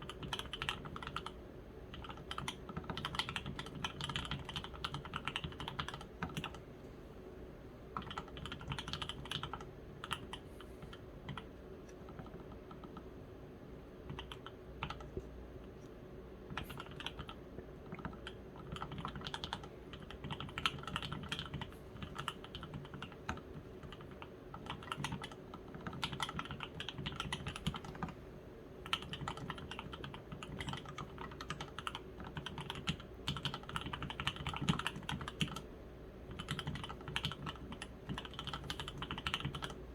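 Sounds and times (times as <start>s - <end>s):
mechanical keyboard typing: 0.0s - 6.6s, 8.0s - 13.1s, 14.0s - 15.2s, 16.5s - 28.1s, 28.8s - 35.7s, 36.3s - 39.8s.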